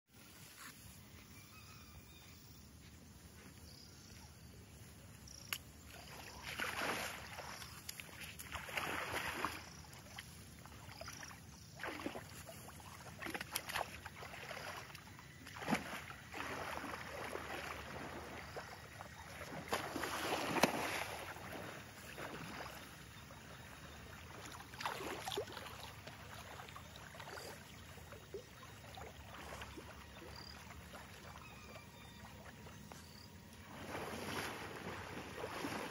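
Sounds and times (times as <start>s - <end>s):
elephant splashing in water: 6.0s - 35.9s.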